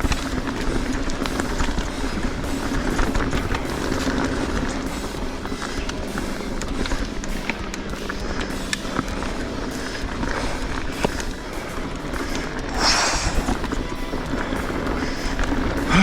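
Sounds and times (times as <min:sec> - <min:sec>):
bike clattering and knocking: 0:00.0 - 0:16.0
bike tyres rolling over rock: 0:00.0 - 0:16.0.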